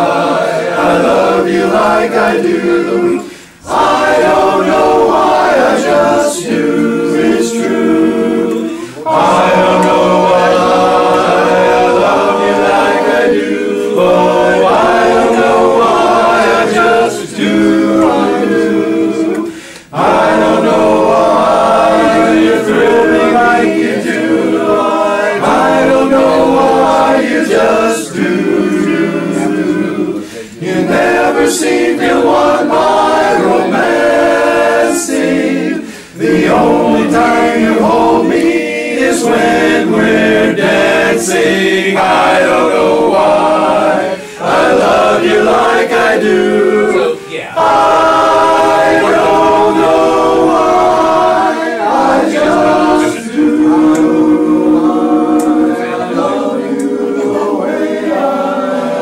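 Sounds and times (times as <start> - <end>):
men singing barbershop harmony: 0.0 - 59.0.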